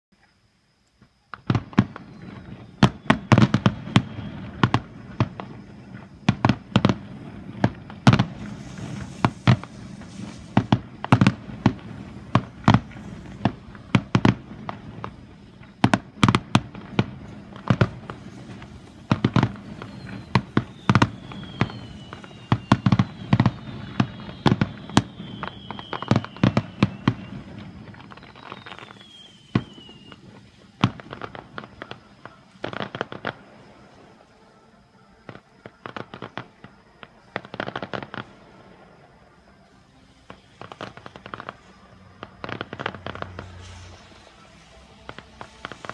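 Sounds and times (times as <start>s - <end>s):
fireworks whistles: 0.2s - 45.9s
fireworks bangs: 1.3s - 45.9s.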